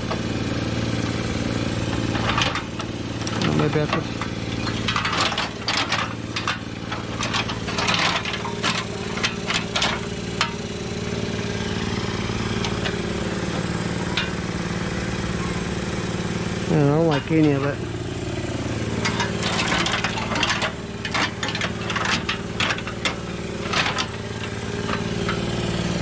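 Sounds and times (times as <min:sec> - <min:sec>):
engine-like hum: 0:00.0 - 0:26.0
metal clanks and knocks: 0:01.8 - 0:10.9, 0:11.6 - 0:14.7, 0:16.9 - 0:25.8.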